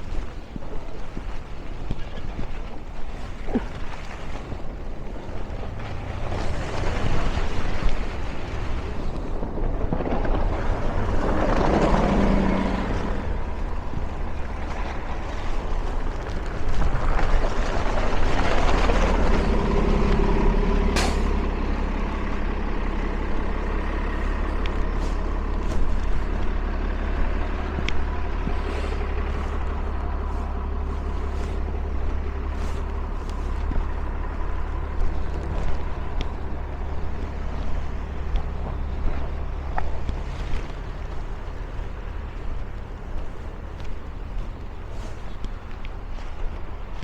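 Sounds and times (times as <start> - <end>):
truck engine running: 0.0 - 47.0
vehicles driving past: 0.0 - 47.0.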